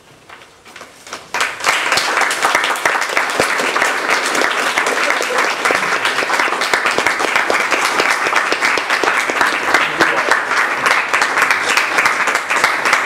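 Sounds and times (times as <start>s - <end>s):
audience applause: 1.3s - 13.0s.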